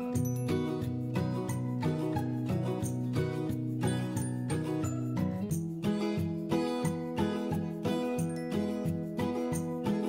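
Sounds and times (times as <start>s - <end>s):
plucked background music: 0.0s - 10.0s.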